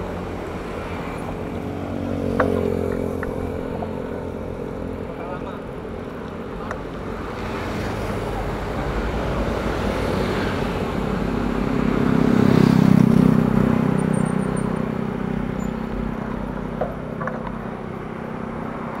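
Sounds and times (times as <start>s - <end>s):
background traffic noise: 0.0s - 19.0s.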